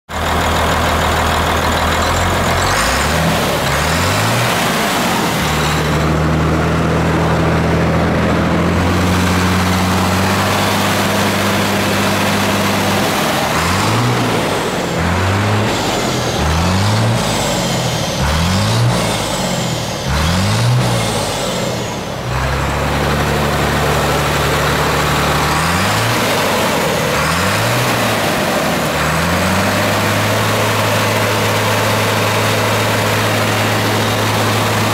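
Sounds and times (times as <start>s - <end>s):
diesel truck engine revving: 0.1s - 34.9s.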